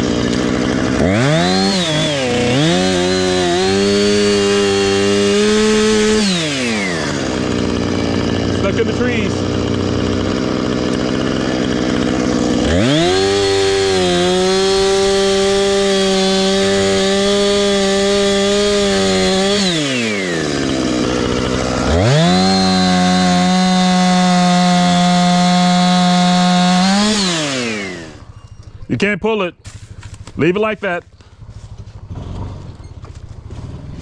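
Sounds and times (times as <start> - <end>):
chainsaw revving and idling: 0.0 - 28.3, 30.0 - 34.0.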